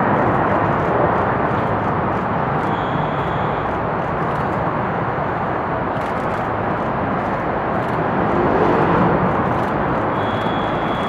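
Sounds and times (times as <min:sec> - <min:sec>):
jet airliner rumbling rush: 0:00.0 - 0:11.0.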